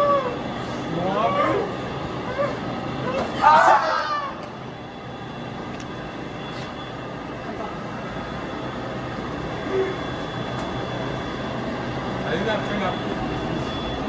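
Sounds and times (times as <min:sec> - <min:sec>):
parking garage rumble and hum: 0:00.0 - 0:14.0.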